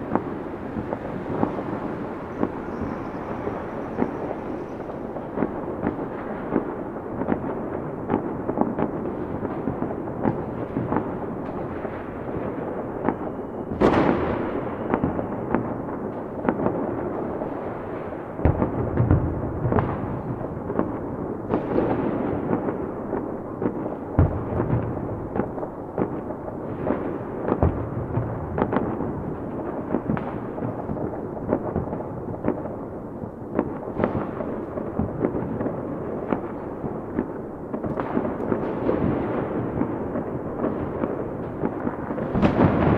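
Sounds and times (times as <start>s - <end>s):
deep firework booms: 0.0s - 42.9s
fireworks crackling and banging: 0.0s - 42.9s.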